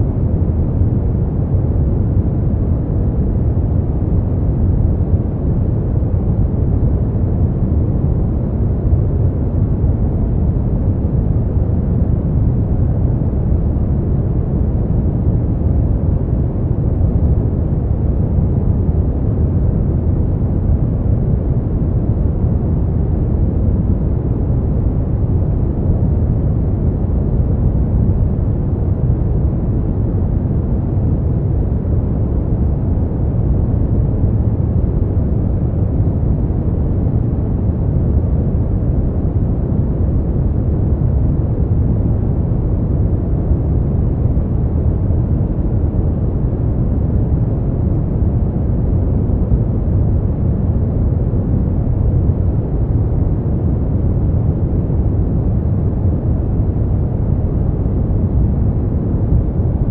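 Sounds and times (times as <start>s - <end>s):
deep rushing brown noise: 0.0s - 59.9s.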